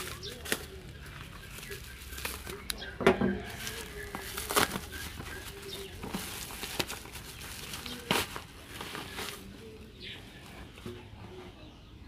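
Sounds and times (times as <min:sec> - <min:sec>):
plastic mailer crinkling: 0:00.0 - 0:09.9.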